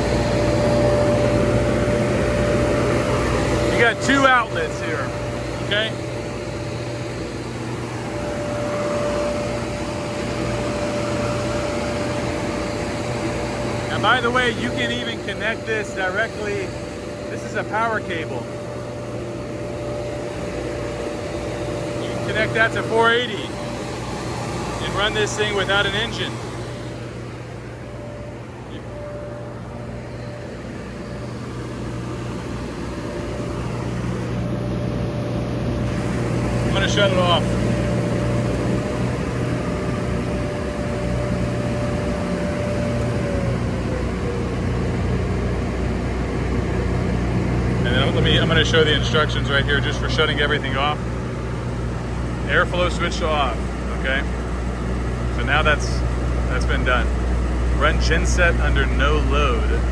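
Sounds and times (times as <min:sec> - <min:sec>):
air conditioner unit running: 0:00.0 - 0:59.9
constant whine: 0:00.0 - 0:59.9
machine drone: 0:00.0 - 0:59.9.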